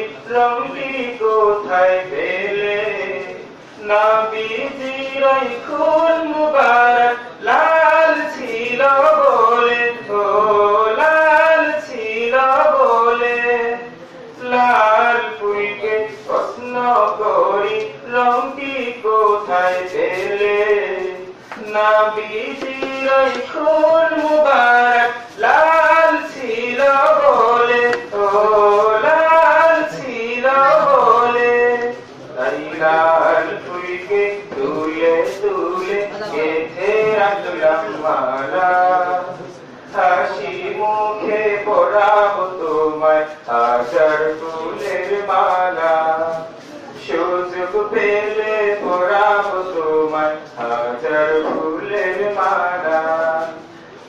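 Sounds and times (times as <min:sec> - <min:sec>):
man chanting devotional verse: 0:00.0 - 0:54.0
man singing into a microphone: 0:00.0 - 0:54.0.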